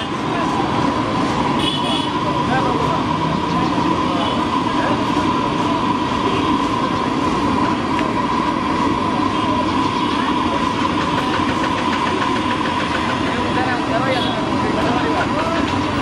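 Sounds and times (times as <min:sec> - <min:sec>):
distant voices: 0:00.0 - 0:16.0
traffic noise: 0:00.0 - 0:16.0.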